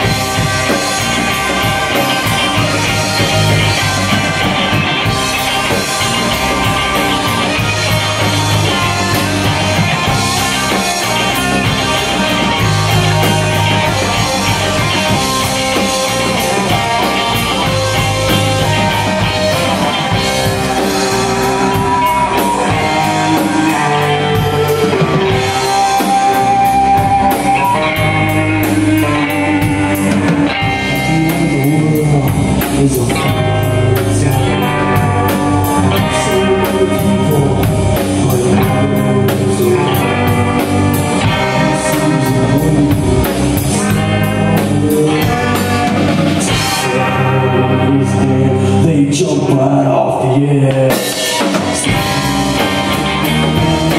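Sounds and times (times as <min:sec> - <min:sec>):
drum kit: 0:00.0 - 0:53.9
electric bass: 0:00.0 - 0:53.9
electric guitars: 0:00.0 - 0:53.9.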